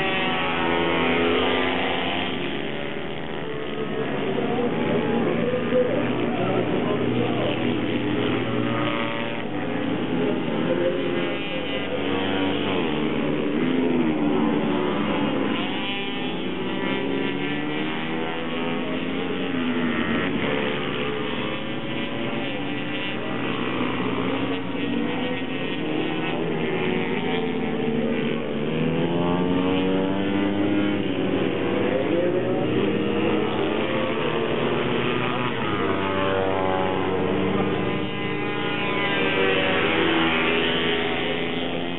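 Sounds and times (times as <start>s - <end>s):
minibike engines revving: 0.0s - 41.9s.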